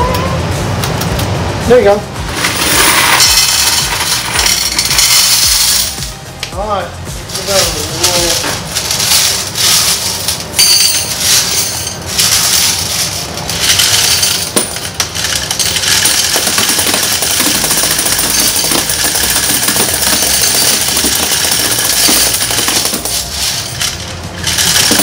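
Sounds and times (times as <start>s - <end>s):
coins clattering through counter: 2.3s - 6.1s, 7.4s - 25.0s.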